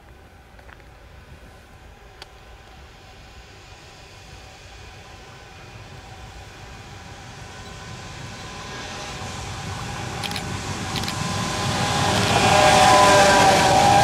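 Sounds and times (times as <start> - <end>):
steady multi-tone whine: 0.0 - 14.0
train rumble: 0.0 - 14.0.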